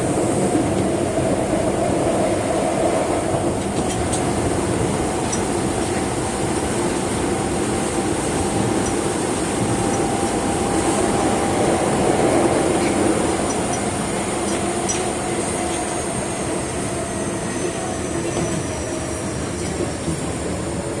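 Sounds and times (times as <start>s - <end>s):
subway train rumbling in tunnel: 0.0s - 21.0s.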